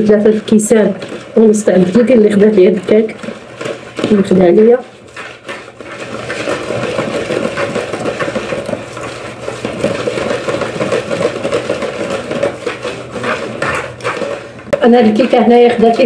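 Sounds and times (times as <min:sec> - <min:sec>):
whisk beating batter in a bowl: 0:00.0 - 0:16.0.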